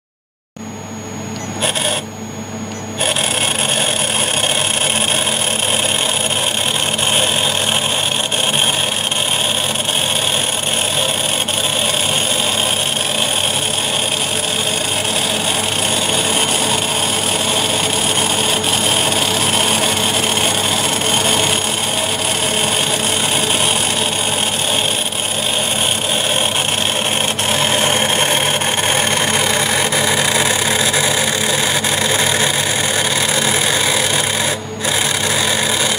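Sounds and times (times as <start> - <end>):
servo motor hum and whine: 0.6 - 35.9.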